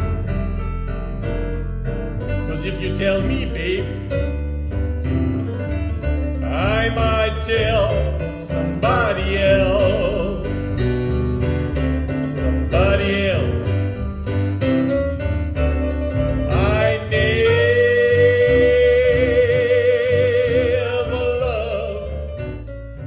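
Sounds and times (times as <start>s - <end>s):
blues song over loudspeakers: 0.0s - 23.0s.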